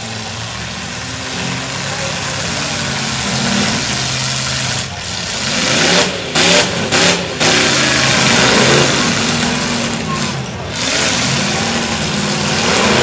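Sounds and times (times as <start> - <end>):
truck engines revving hard: 0.0 - 13.0.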